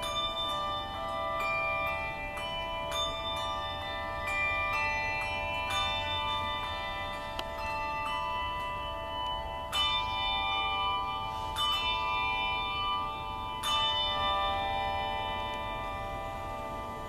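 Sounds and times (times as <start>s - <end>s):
handbells ringing: 0.0s - 17.0s.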